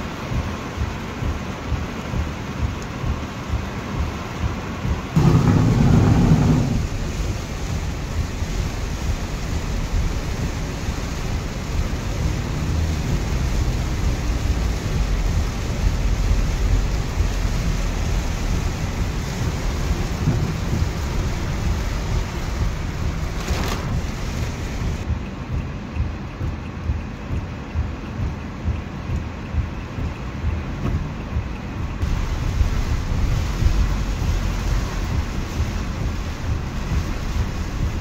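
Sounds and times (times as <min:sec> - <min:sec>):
car driving on wet road: 0:00.0 - 0:38.0
heavy rain drumming on car roof: 0:00.0 - 0:38.0.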